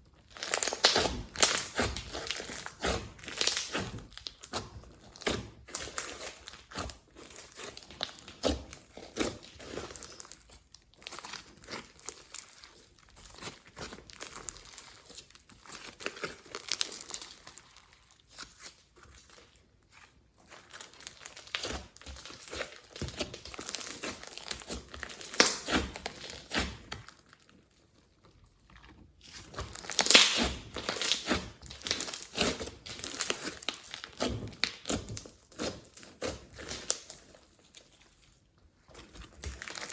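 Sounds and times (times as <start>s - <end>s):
slime squelching and popping: 0.0s - 39.9s.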